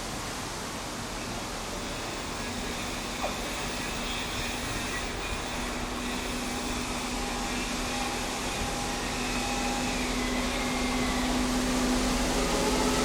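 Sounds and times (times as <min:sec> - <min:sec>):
diesel train engine humming: 0:01.3 - 0:13.0.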